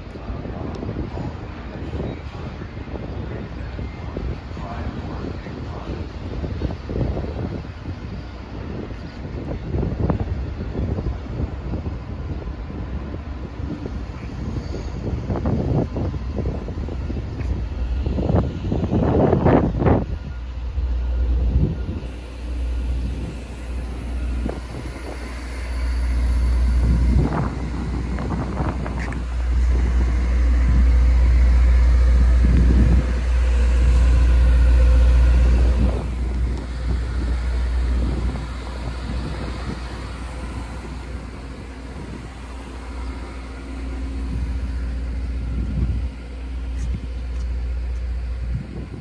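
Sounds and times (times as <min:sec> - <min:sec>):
steady mechanical hum: 0:00.0 - 0:49.0
wind buffeting microphone: 0:00.0 - 0:49.0.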